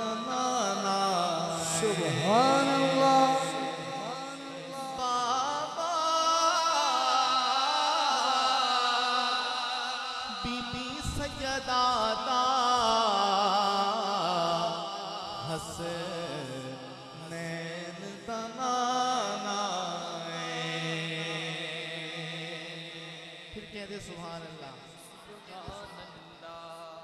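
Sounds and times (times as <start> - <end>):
man chanting into microphone: 0.0 - 27.0.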